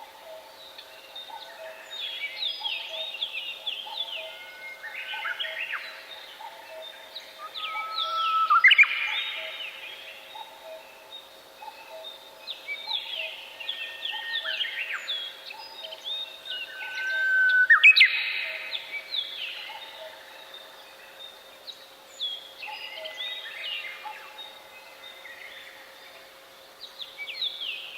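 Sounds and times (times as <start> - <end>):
other birds singing quietly: 0.0 - 27.9.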